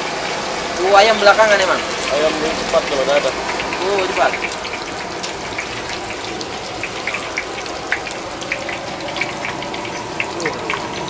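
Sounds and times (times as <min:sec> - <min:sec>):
hot oil sizzling in a wok: 0:00.0 - 0:11.0
crackling pops of frying: 0:00.8 - 0:11.0.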